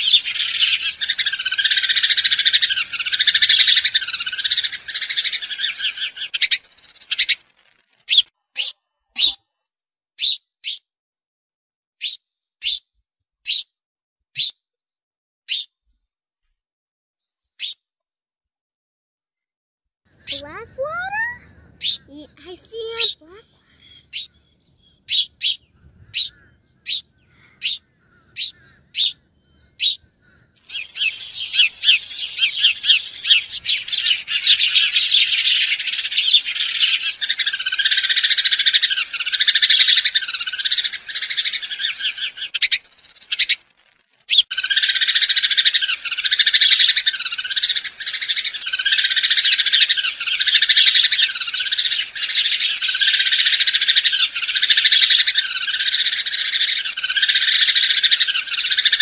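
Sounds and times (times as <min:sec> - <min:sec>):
chorus of birds chirping: 0:00.0 - 0:10.8, 0:20.1 - 0:59.0
sharp bird chirps: 0:00.0 - 0:10.9, 0:12.0 - 0:13.7, 0:15.5 - 0:16.1, 0:17.3 - 0:17.8, 0:20.1 - 0:59.0.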